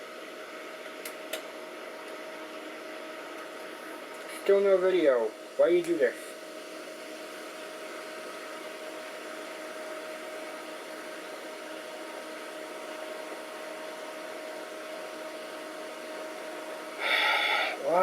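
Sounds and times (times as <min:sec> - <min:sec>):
computer cooling fans running: 0:00.0 - 0:18.0
faint steady hum: 0:00.0 - 0:18.0.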